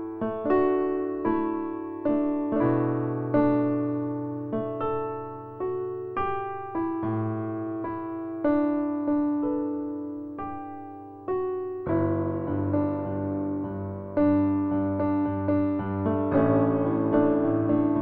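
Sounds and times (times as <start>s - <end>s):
gentle piano melody: 0.0s - 18.0s.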